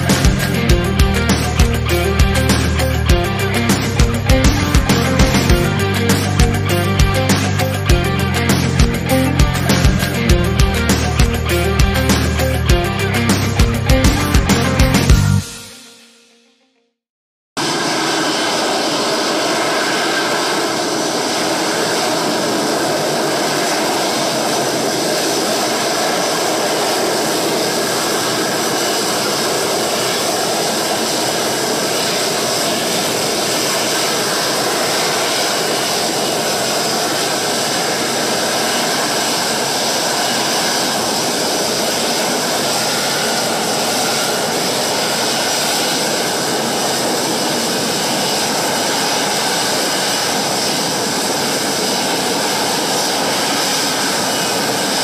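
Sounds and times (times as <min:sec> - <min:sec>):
jet engine rushing: 0:00.0 - 0:15.5, 0:17.6 - 0:55.0.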